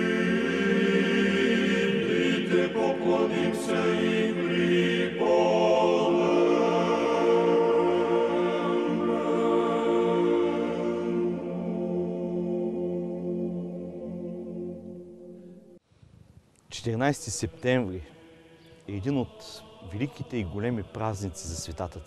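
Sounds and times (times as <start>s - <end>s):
choral chanting: 0.0s - 15.8s, 17.4s - 22.0s.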